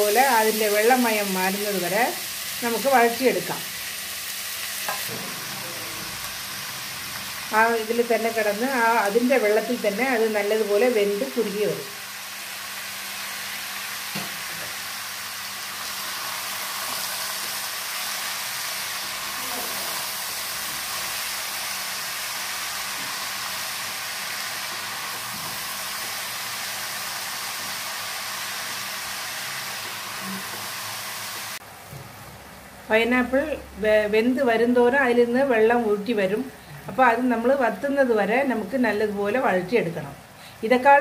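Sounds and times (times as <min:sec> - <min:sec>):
fruit sizzling in a pan: 0:00.0 - 0:41.0.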